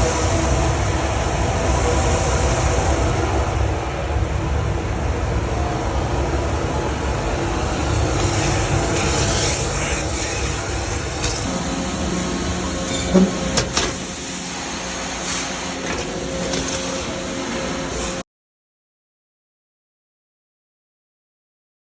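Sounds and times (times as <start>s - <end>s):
vacuum system air rush: 0.0s - 18.2s.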